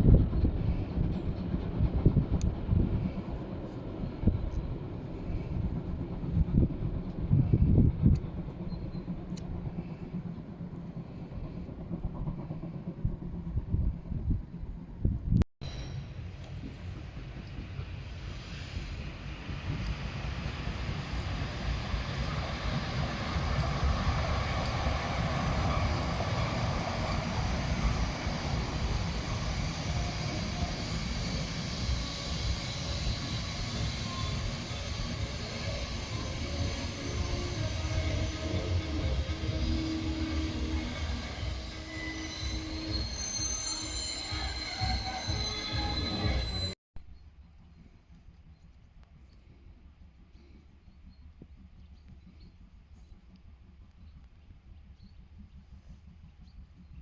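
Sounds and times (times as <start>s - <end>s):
steam train rumble: 0.0s - 46.8s.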